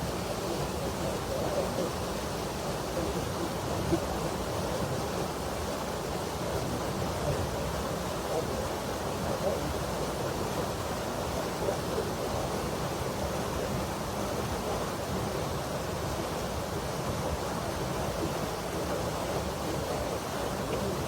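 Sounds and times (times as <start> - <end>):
stream rushing: 0.0 - 21.0.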